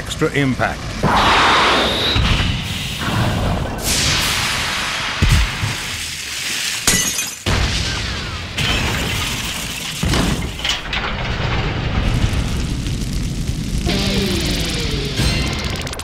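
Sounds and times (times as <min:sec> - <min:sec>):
processed crash sound effects: 0:01.0 - 0:06.9, 0:07.5 - 0:16.0.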